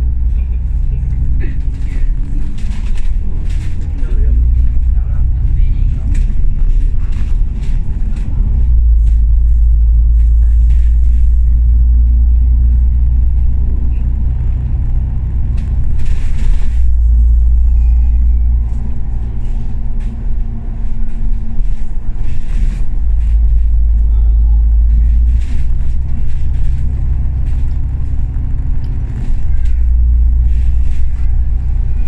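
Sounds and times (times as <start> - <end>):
bus engine drone: 0.0 - 32.0
body rattles and clicks: 0.2 - 17.5, 18.5 - 32.0.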